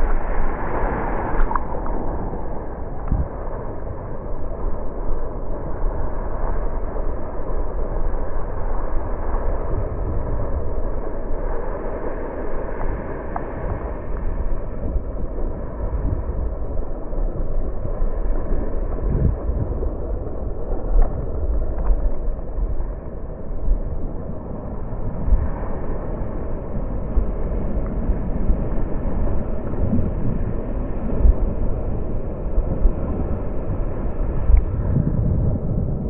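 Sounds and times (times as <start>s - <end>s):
wind buffeting microphone: 0.0s - 12.8s, 13.6s - 36.0s
water rushing along surfboard: 0.0s - 36.0s.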